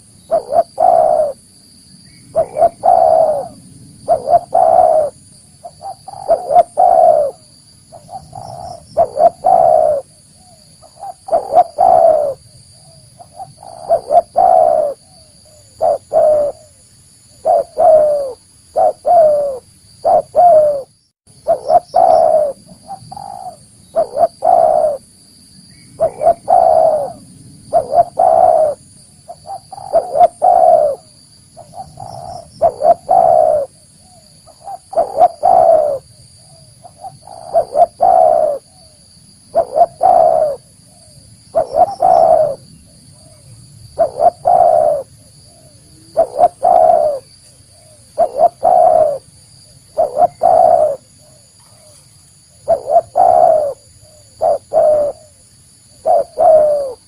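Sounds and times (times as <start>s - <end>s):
dove cooing: 0.0s - 1.4s, 2.3s - 16.8s, 17.4s - 25.1s, 26.0s - 57.0s.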